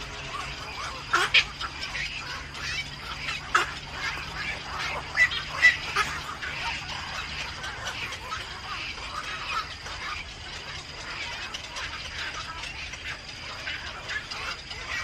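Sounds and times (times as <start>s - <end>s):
birds calling: 0.0s - 15.0s
faint steady hum: 0.0s - 15.0s.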